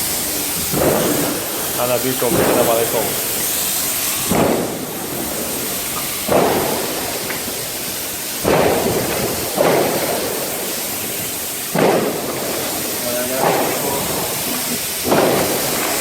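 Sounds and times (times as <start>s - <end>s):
steady hiss: 0.0s - 16.0s
sudden bursts: 0.0s - 16.0s.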